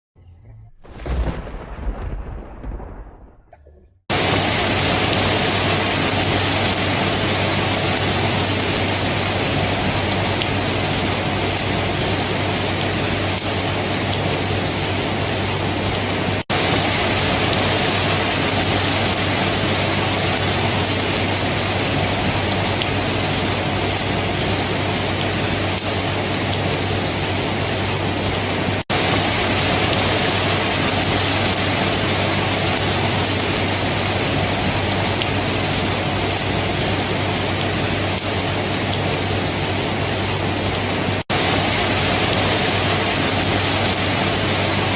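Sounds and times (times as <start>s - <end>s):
dense rainfall hiss: 4.1s - 44.9s.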